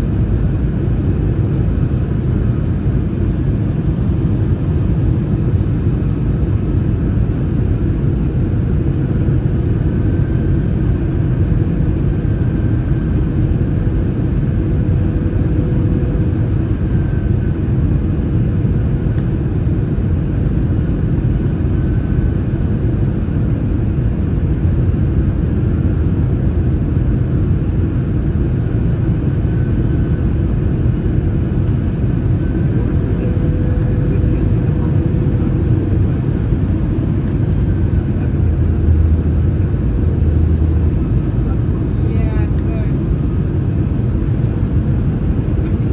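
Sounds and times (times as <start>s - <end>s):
airplane cabin roar: 0.0s - 45.9s.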